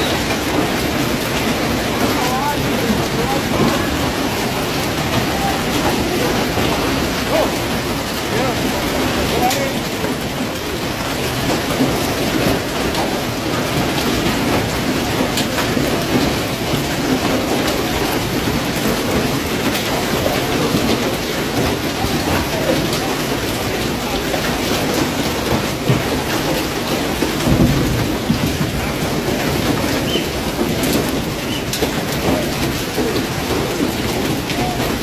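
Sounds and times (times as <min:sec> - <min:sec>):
hail clattering on cars and ground: 0:00.0 - 0:35.0.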